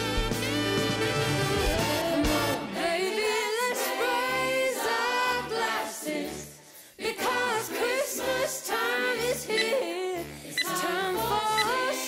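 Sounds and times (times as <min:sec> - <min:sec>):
song with sung vocals: 0:00.4 - 0:12.0.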